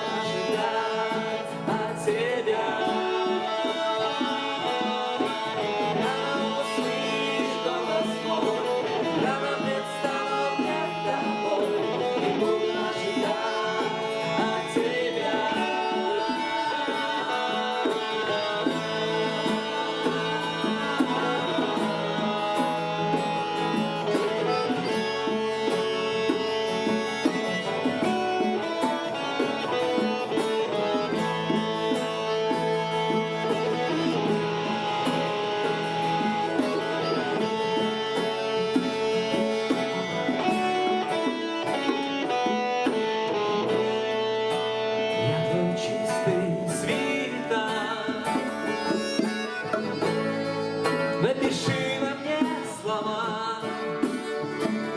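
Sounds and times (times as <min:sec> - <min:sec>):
plucked string instruments: 0:00.0 - 0:54.9.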